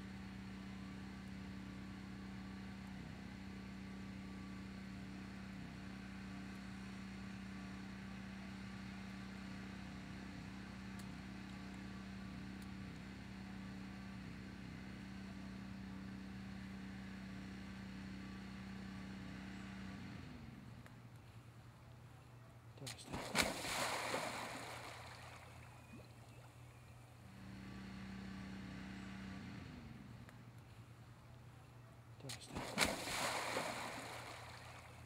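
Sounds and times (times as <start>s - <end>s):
low motor hum: 0.0s - 35.0s.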